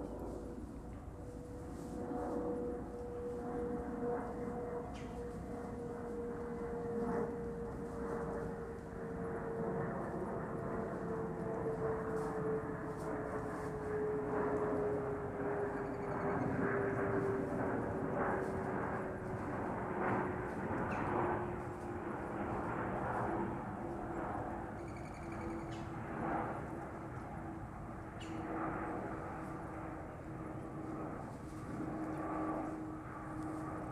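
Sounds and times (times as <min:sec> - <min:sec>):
distant engine drone: 0:00.0 - 0:33.9
outdoor background noise: 0:00.0 - 0:33.9.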